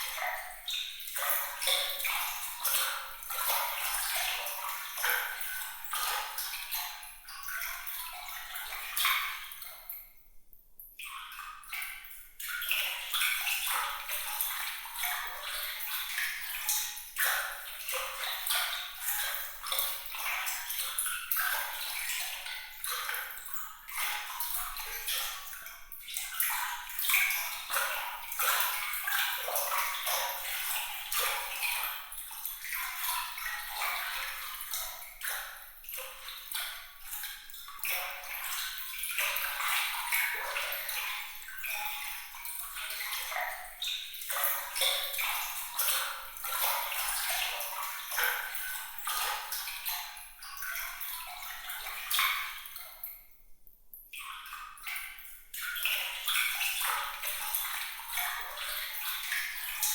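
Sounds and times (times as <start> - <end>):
water trickling and splashing: 0.0 - 10.2, 11.0 - 59.9.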